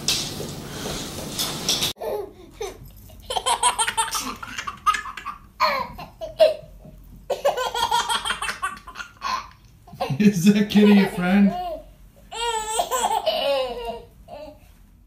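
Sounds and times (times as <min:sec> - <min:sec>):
baby laughing: 0:02.0 - 0:14.6.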